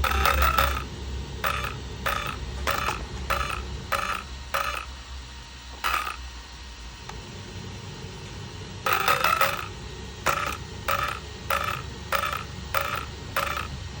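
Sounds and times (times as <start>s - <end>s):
motor giving short buzzing chirps: 0.0s - 6.4s, 8.8s - 14.0s.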